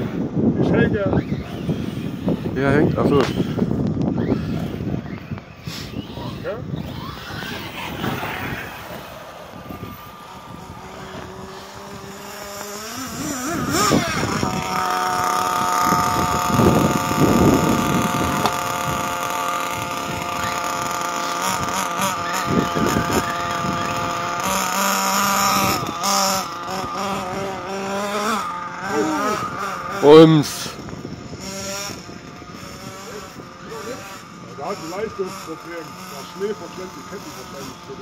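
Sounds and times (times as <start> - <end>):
model car motors whining: 0.0 - 38.0.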